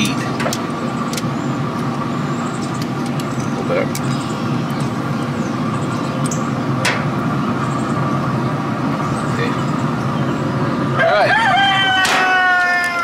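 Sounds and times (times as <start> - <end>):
smoker fan whirring: 0.0 - 13.0.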